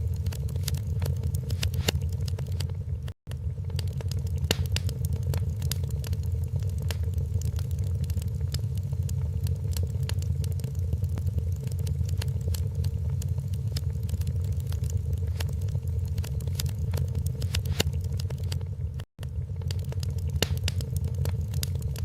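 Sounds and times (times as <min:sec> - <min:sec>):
low rumble of burning fire: 0:00.0 - 0:22.0
wood fire crackling: 0:00.0 - 0:22.0.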